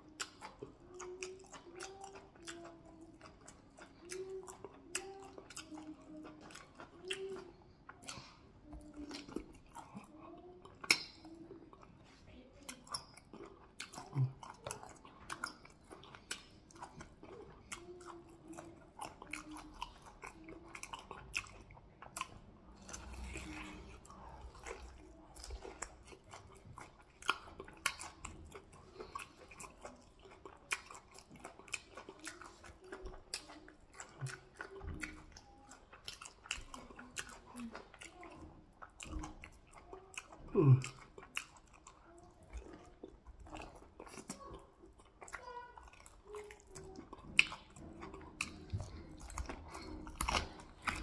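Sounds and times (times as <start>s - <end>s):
person chewing meat: 0.0s - 51.0s.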